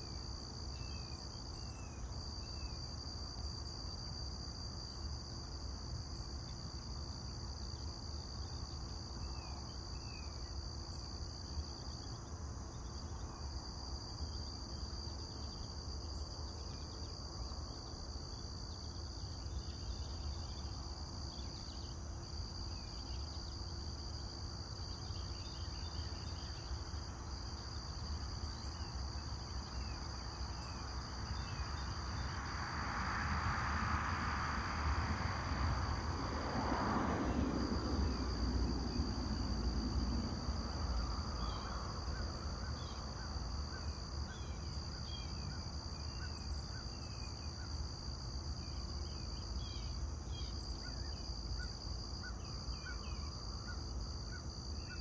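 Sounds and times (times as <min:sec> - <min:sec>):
insect chorus trilling: 0:05.9 - 0:55.0.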